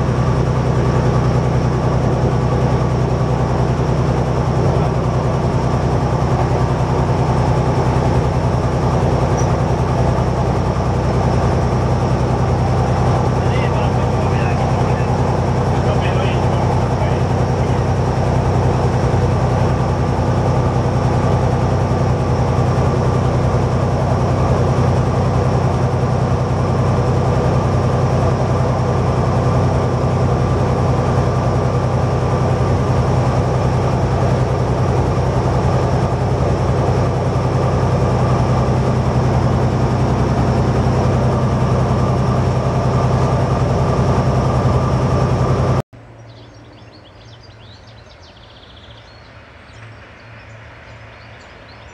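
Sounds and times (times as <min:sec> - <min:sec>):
diesel engine drone: 0:00.0 - 0:51.9
wheels rumbling on track: 0:00.0 - 0:51.9.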